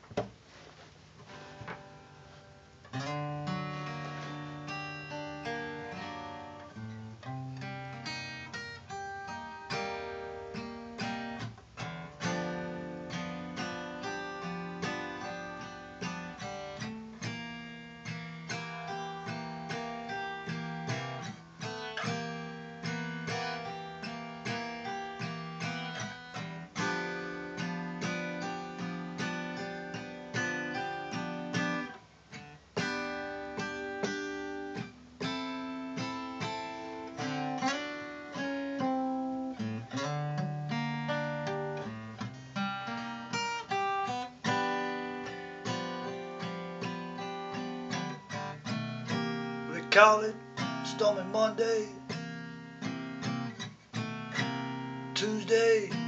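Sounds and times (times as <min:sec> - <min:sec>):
acoustic guitar blues: 0:00.0 - 0:56.0.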